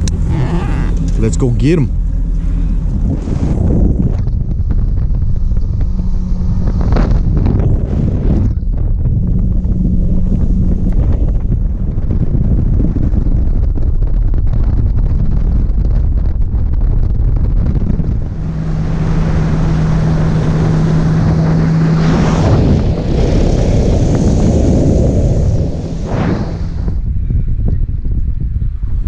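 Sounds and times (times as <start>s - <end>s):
boat motor hum: 0.0s - 27.2s
wind buffeting microphone: 0.0s - 29.0s.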